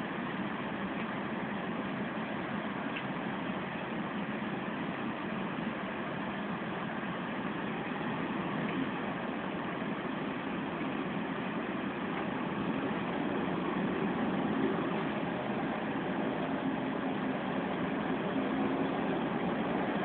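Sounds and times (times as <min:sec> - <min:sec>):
bus diesel engine running: 0:00.0 - 0:20.0
steady drivetrain tone: 0:00.0 - 0:20.0.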